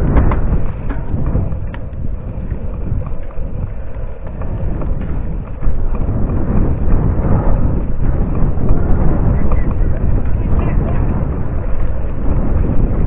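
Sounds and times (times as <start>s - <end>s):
tyres rumbling over dirt: 0.0s - 13.0s
wind buffeting microphone: 0.0s - 13.0s.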